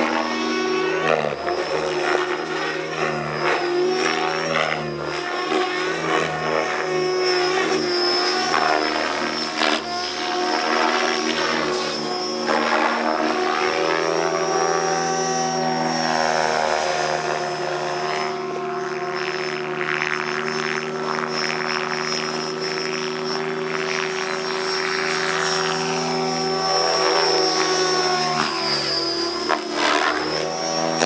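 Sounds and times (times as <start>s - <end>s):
rc helicopter motor whine: 0.0s - 31.0s
rotor blades whirring: 0.0s - 31.0s.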